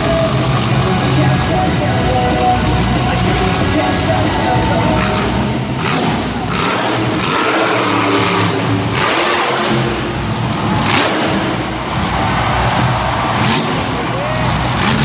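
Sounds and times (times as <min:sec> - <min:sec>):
truck engine revving loudly: 0:00.0 - 0:15.0.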